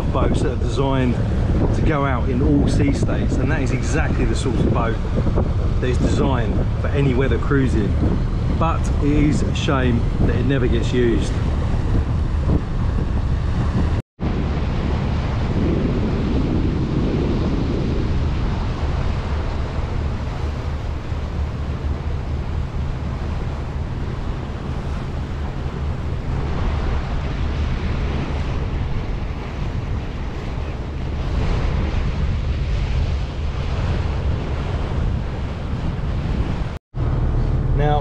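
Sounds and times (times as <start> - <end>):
low engine drone: 0.0 - 38.0
water rushing along a hull: 0.0 - 38.0
wind buffeting the microphone: 0.0 - 38.0.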